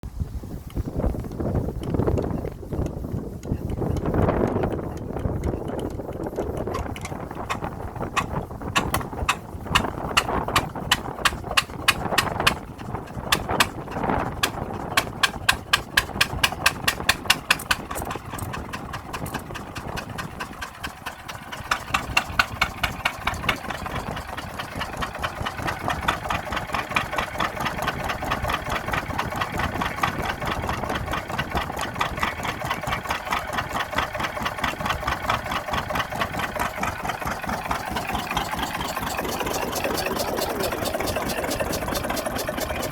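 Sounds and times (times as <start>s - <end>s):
diesel engine starting and running: 0.0s - 42.9s.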